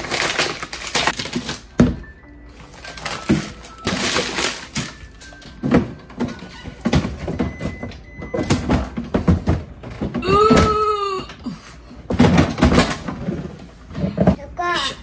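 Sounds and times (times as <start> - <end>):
containers and drawers clattering: 0.0 - 10.3, 12.0 - 14.5.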